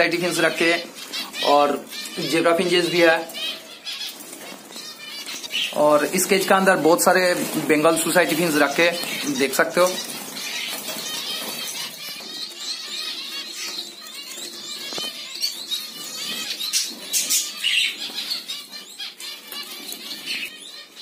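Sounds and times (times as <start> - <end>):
finches chirping and twittering: 0.0 - 21.0
wings fluttering: 1.0 - 18.7.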